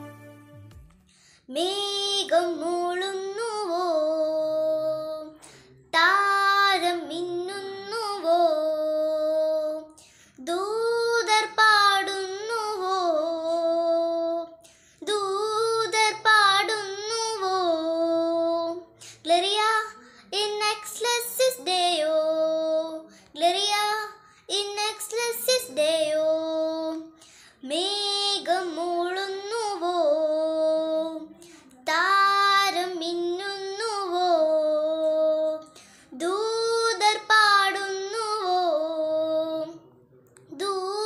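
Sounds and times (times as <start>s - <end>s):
girl singing: 1.4s - 41.0s.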